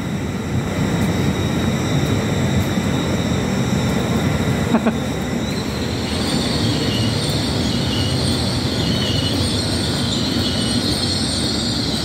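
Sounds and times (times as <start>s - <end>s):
high whine of train: 0.0s - 12.0s
train wheels rumbling on rail: 0.0s - 12.0s.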